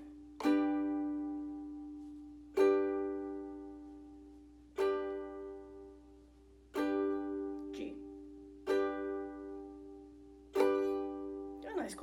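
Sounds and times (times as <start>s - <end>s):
ukulele chord strummed: 0.0s - 12.0s.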